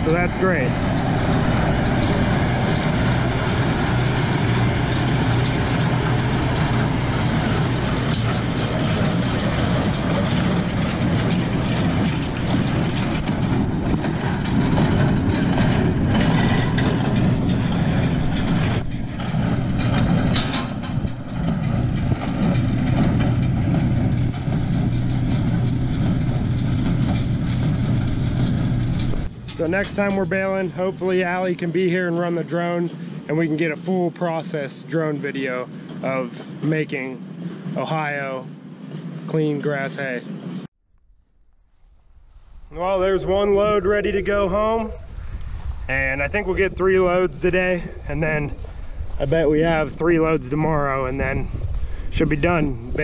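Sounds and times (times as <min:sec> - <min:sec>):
baler machinery noise: 0:00.0 - 0:40.7, 0:41.4 - 0:53.0
tractor engine running: 0:00.0 - 0:53.0.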